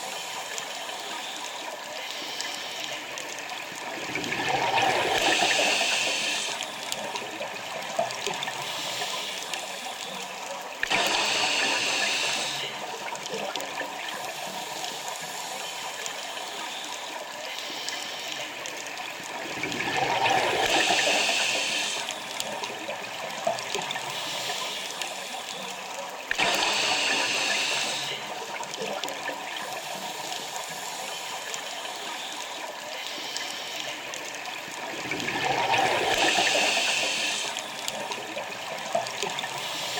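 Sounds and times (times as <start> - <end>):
bubbles and hiss: 0.0 - 39.9
watery background: 0.0 - 39.9.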